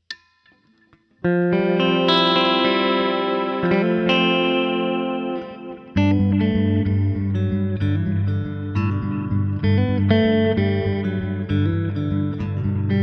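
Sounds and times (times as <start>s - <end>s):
distorted electric guitar: 1.2s - 13.0s.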